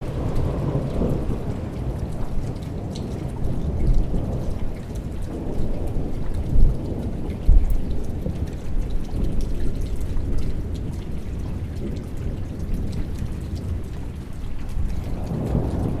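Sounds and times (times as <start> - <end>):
rain falling and pattering: 0.0 - 16.0
rolling thunder: 0.0 - 16.0.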